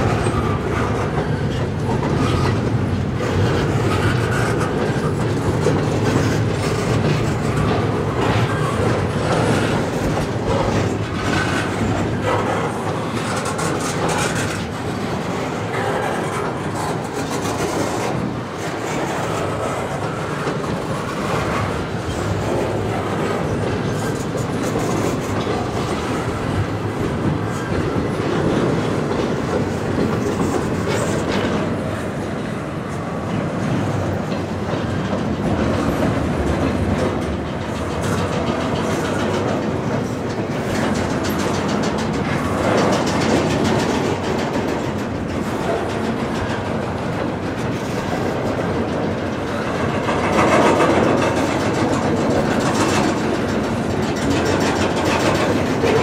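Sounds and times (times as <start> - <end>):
steel wheels rumbling on rail: 0.0 - 56.0
train wheels clickety-clack: 0.0 - 56.0.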